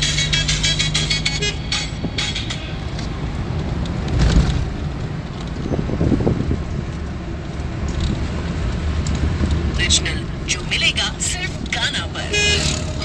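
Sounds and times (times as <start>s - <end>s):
wind and road noise through car window: 0.0s - 13.0s.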